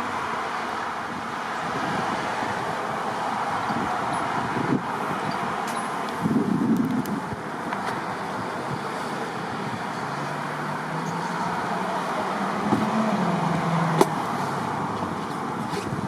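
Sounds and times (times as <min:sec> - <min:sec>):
road traffic noise: 0:00.0 - 0:16.0
vehicle engine hum: 0:00.0 - 0:16.0.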